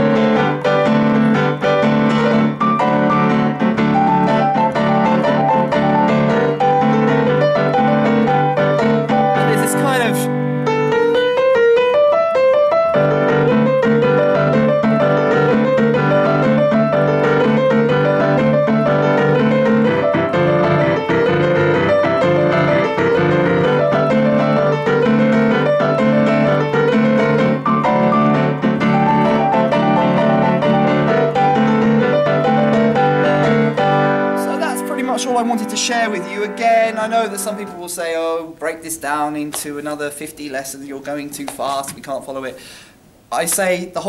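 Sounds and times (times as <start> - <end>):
boogie-woogie piano: 0.0 - 44.0.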